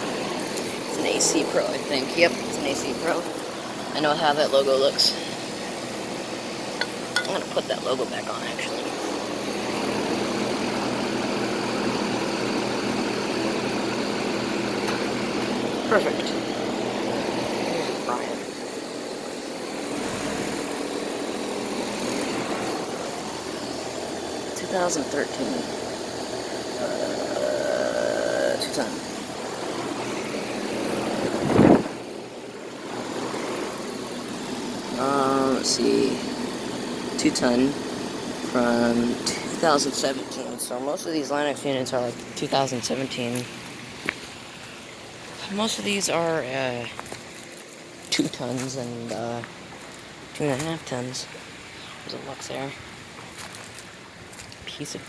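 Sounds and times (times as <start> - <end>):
compressor hum: 0.0 - 55.0
condenser fan rushing: 0.0 - 55.0.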